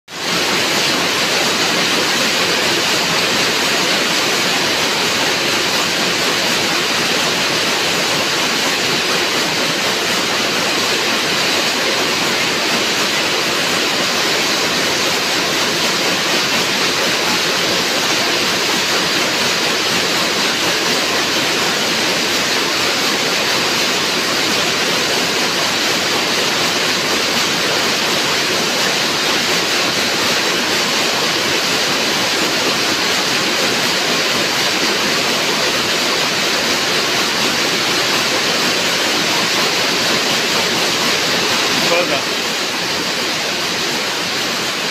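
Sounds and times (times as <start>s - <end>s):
weaving looms running: 0.2s - 44.9s.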